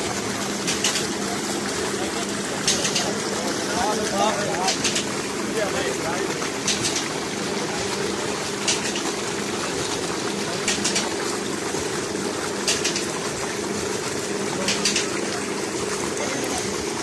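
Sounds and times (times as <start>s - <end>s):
pumped water gushing: 0.0s - 17.0s.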